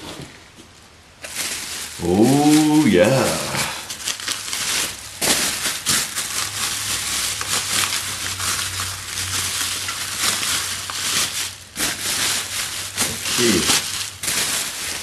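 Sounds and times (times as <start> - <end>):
bubble wrap crinkling: 1.2 - 15.0.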